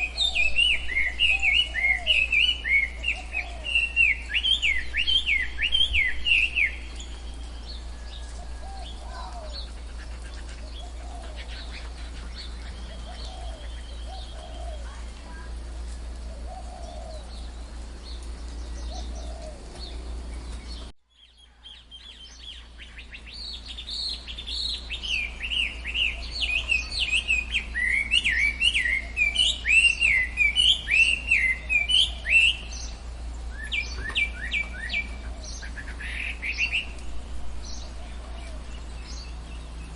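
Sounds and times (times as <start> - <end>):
songbirds chirping: 0.0 - 39.9
steady low hum: 0.0 - 39.9.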